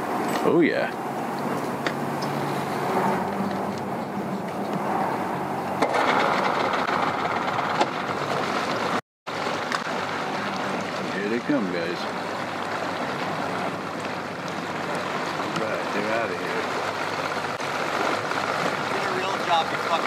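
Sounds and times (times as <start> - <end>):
outboard motor idling: 0.0 - 20.0
water rushing: 0.0 - 20.0.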